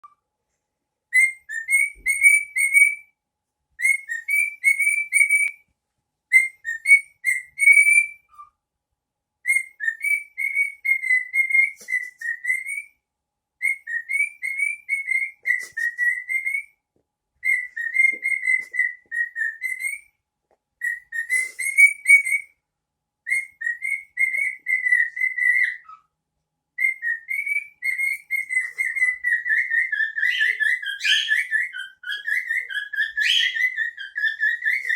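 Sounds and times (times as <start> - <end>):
cockatiel whistling a tune: 1.1 - 3.1, 3.8 - 5.7, 6.3 - 8.5, 9.4 - 13.0, 13.6 - 16.8, 17.4 - 20.2, 20.8 - 22.6, 23.2 - 26.1, 26.8 - 34.9.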